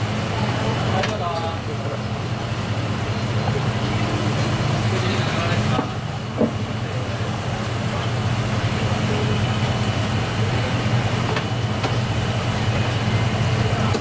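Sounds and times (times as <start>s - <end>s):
ventilation fan humming: 0.0s - 14.0s.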